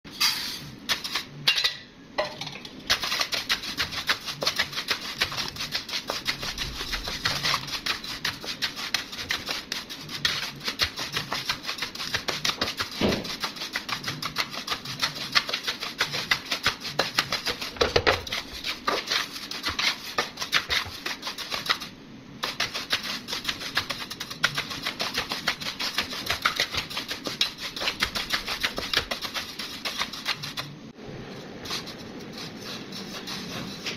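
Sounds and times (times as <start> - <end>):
metal spoon scraping a pan: 2.4 - 30.7, 31.3 - 33.9.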